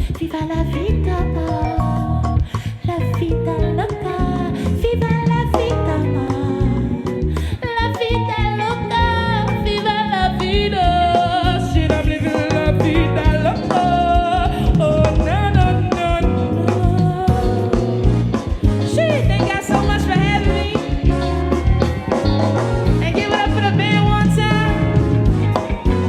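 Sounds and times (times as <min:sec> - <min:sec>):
live band playing: 0:00.0 - 0:26.0
woman singing: 0:00.0 - 0:26.0.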